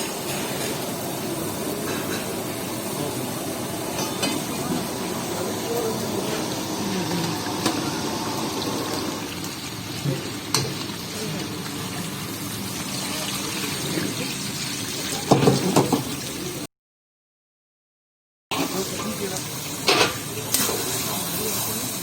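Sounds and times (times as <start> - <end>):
food sizzling in a pan: 0.0 - 16.6, 18.5 - 22.0.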